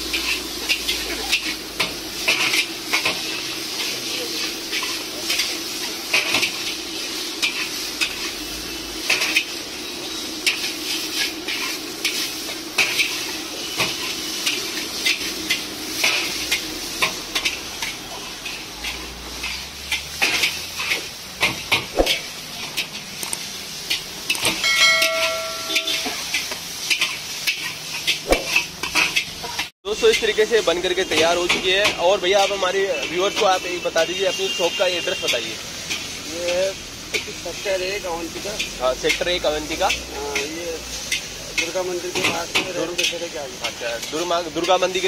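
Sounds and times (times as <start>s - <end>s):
metal spatula scraping wok: 0.0s - 45.0s
noodles sizzling: 0.0s - 45.0s.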